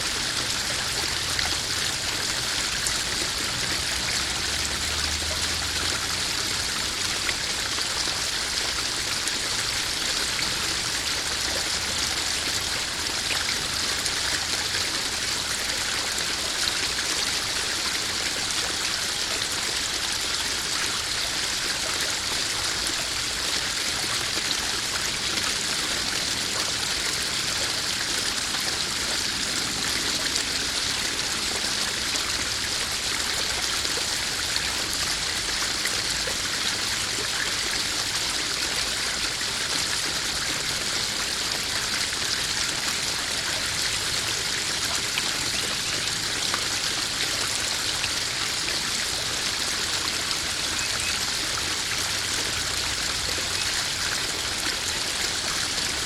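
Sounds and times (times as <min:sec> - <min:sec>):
water trickling: 0:00.0 - 0:56.0
waterfall splashing into pond: 0:00.0 - 0:56.0.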